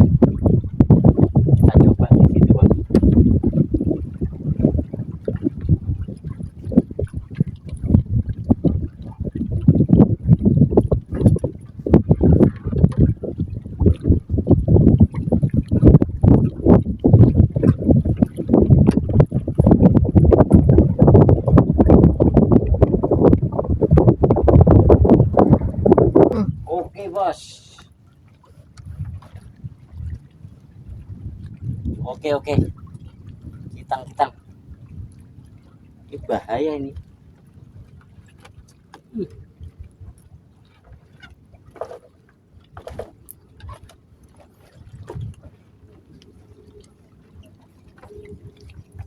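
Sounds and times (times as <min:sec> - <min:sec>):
strong wind buffeting microphone: 0:00.0 - 0:27.8, 0:28.7 - 0:42.0, 0:42.6 - 0:49.0
water slapping against a boat: 0:00.0 - 0:49.0.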